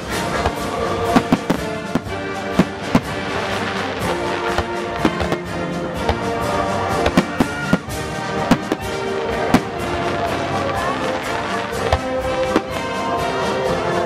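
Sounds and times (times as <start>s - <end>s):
fireworks bangs: 0.0s - 13.5s
orchestral music with brass: 0.0s - 14.0s.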